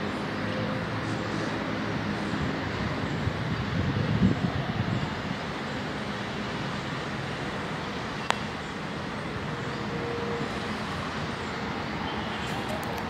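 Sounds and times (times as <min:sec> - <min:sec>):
highway traffic noise: 0:00.0 - 0:13.0.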